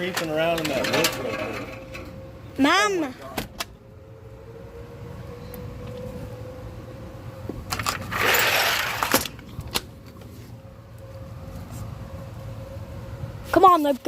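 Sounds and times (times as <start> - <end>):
distant warning siren: 0.0 - 14.0.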